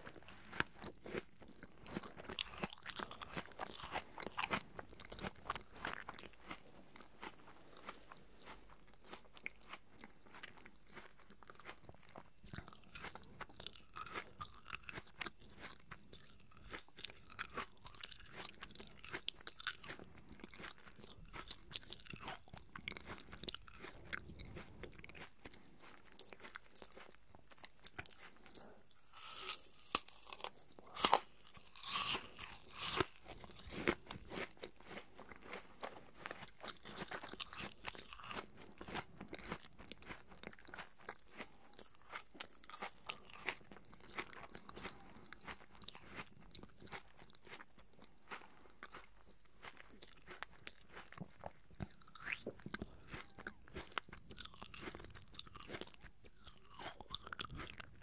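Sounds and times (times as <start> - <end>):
chewing apple with wet crunches: 0.0 - 58.0.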